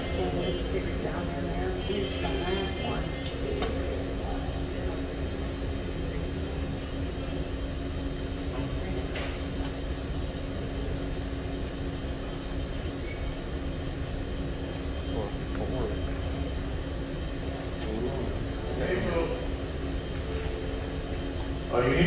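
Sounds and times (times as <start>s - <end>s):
low machine rumble and hum: 0.0s - 22.0s.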